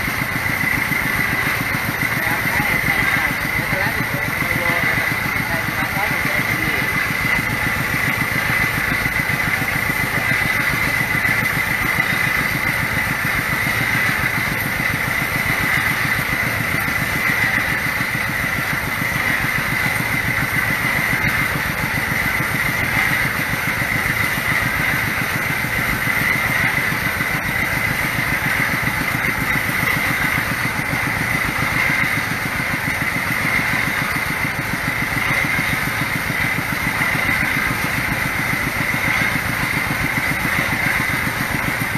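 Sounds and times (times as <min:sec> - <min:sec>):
diesel engine chugging: 0:00.0 - 0:41.9
water spraying and splashing: 0:00.0 - 0:41.9.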